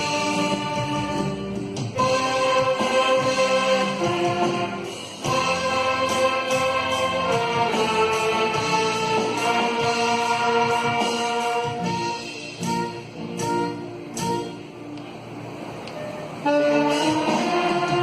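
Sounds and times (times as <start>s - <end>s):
orchestra playing a hymn: 0.0s - 15.1s, 15.9s - 18.0s.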